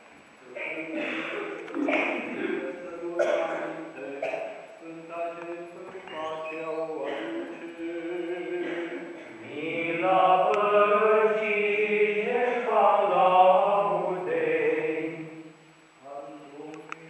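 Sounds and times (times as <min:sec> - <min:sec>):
voices singing liturgical chant: 0:00.4 - 0:17.0.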